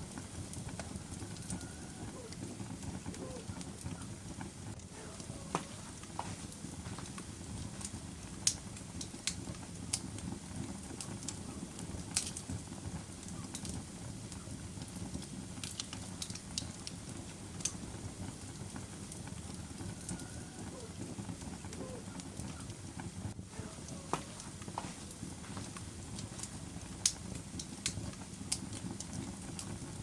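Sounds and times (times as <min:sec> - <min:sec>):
fire rumbling: 0:00.0 - 0:30.0
wood fire crackling and popping: 0:00.0 - 0:30.0.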